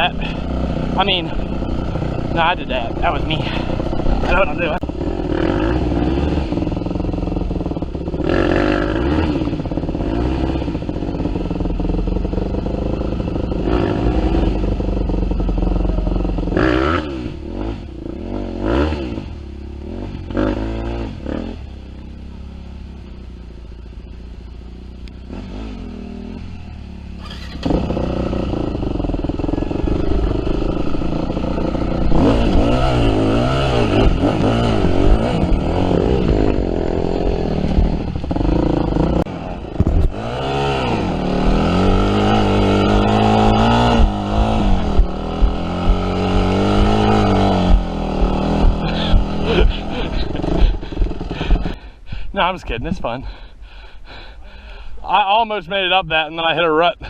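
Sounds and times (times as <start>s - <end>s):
dirt bike engine revving: 0.0s - 55.6s.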